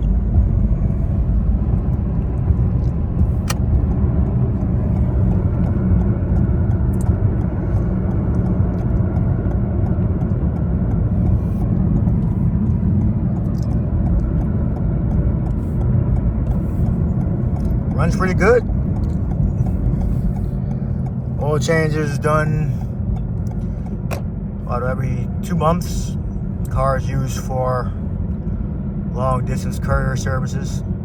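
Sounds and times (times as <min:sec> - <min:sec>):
road and tyre rumble: 0:00.0 - 0:31.0.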